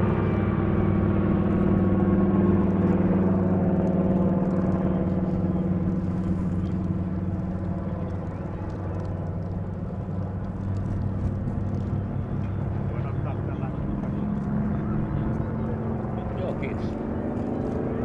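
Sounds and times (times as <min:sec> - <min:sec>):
propeller plane flying overhead: 0:00.0 - 0:18.0.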